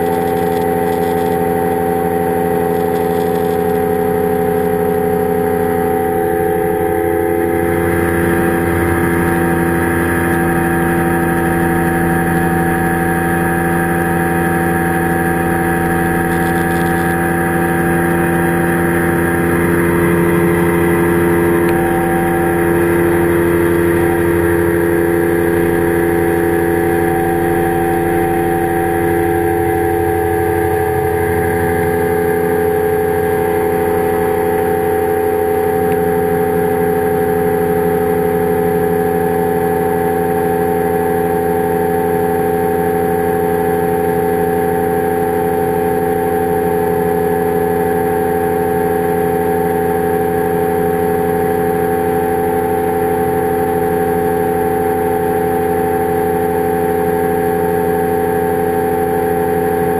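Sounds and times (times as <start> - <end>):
engine and propeller drone: 0.0 - 59.9.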